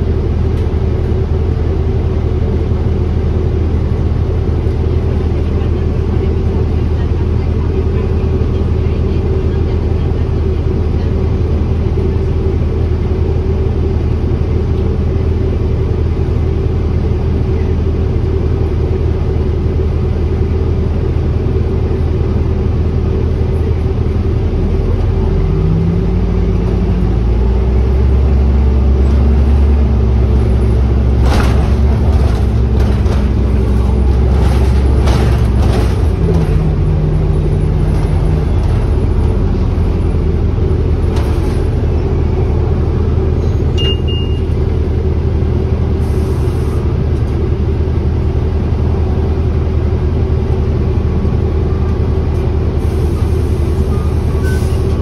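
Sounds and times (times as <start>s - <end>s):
bus engine drone and hum: 0.0s - 55.0s.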